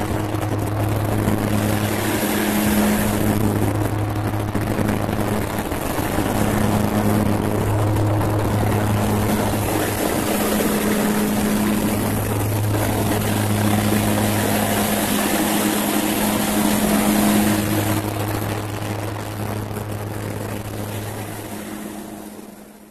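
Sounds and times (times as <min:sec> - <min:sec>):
propeller aircraft cabin drone: 0:00.0 - 0:22.9
rushing air noise: 0:00.0 - 0:22.9.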